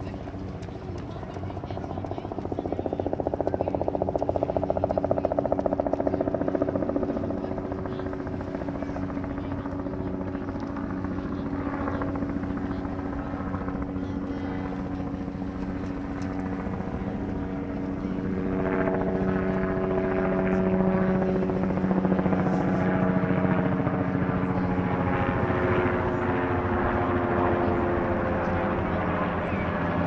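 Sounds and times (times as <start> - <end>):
helicopter rotor drone: 0.0 - 30.0.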